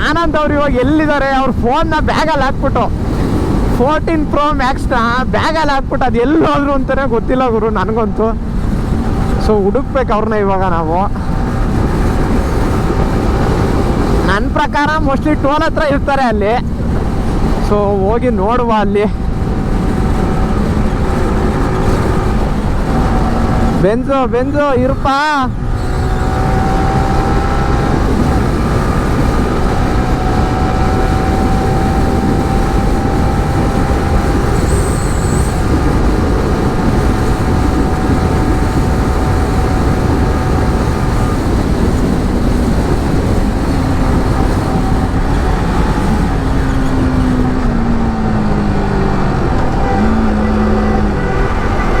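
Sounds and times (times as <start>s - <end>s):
motorcycle engine and road noise: 0.0s - 52.0s
wind rushing over microphone: 0.0s - 52.0s.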